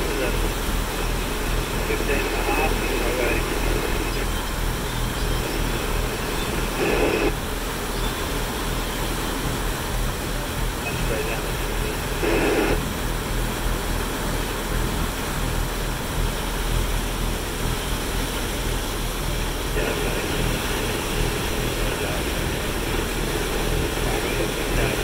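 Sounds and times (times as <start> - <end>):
boat engine running: 0.0 - 25.0
water churning in wake: 0.0 - 25.0.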